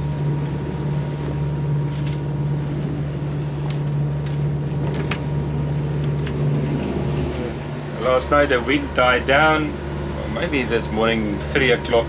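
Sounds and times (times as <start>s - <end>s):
diesel boat engine droning: 0.0s - 12.0s.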